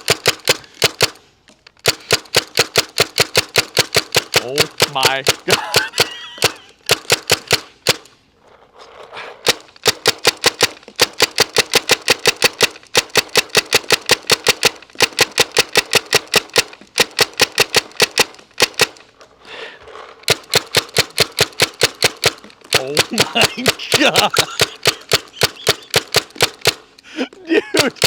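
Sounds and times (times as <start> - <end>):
paintball marker firing rapid shots: 0.0 - 8.1, 9.4 - 19.1, 20.2 - 27.0, 27.8 - 28.0.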